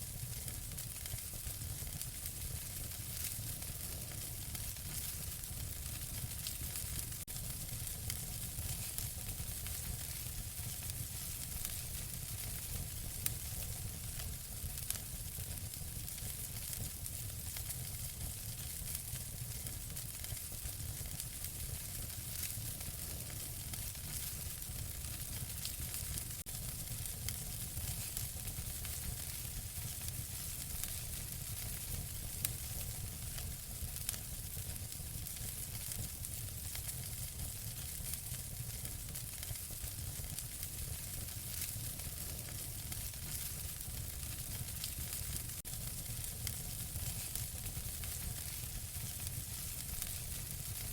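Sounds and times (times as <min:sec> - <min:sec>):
wood fire crackling: 0:00.1 - 0:50.9.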